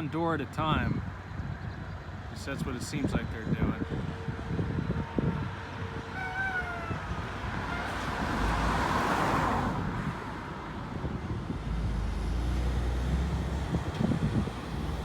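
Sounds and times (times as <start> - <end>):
vehicle tyre and road noise: 0.0 - 15.0.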